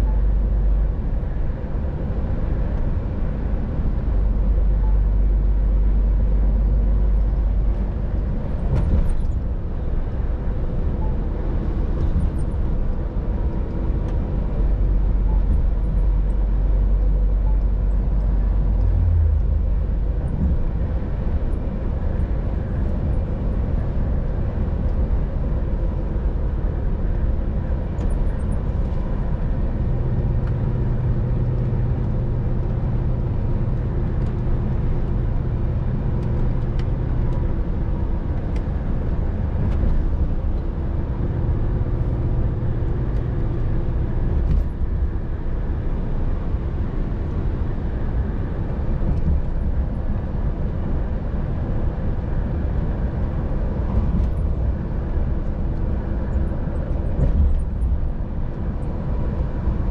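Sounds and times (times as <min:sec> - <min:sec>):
truck engine drone: 0:00.0 - 0:59.9
tyre and road noise: 0:00.0 - 0:59.9.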